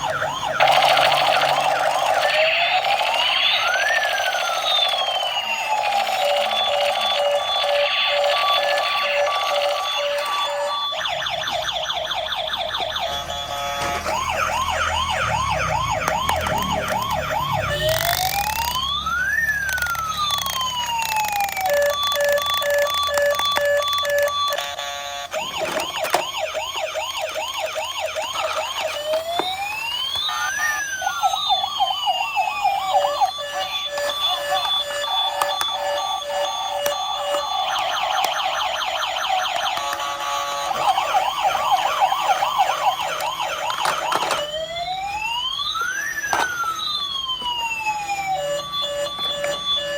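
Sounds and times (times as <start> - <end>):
electronic toy siren: 0.0 - 49.9.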